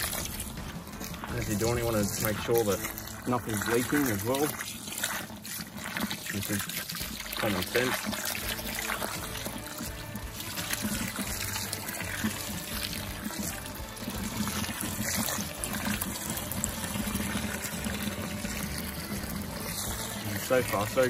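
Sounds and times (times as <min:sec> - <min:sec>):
water from hose churning bubbles: 0:00.0 - 0:21.0.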